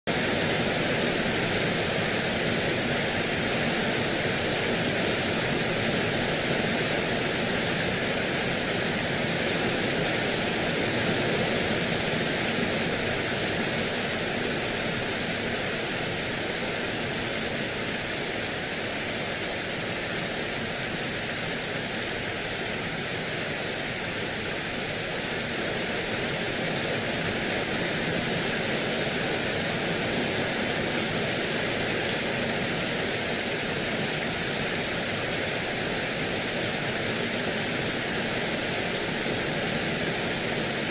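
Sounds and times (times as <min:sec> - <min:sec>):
rain pouring: 0:00.1 - 0:40.9.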